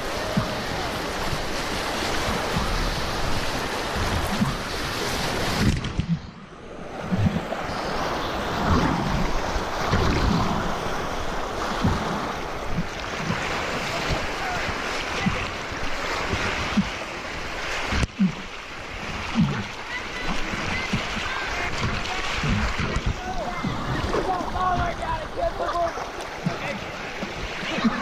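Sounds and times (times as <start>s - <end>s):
rushing whitewater: 0.0s - 6.0s, 6.6s - 28.0s
low thumps of water: 0.0s - 28.0s.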